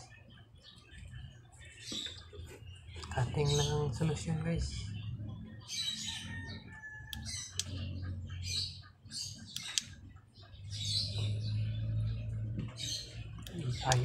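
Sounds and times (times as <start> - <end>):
chickens clucking: 0.0 - 14.0
steady low hum: 0.0 - 14.0.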